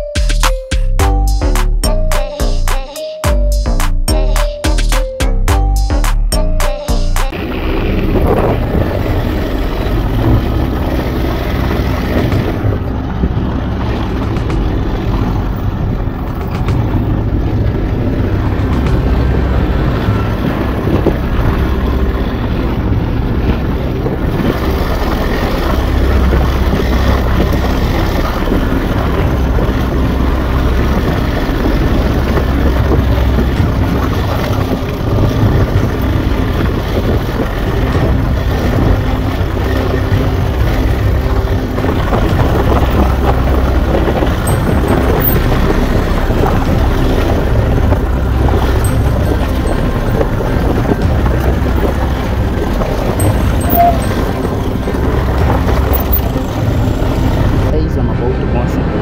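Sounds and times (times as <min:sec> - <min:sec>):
motorcycle engine running: 0:00.0 - 0:58.7.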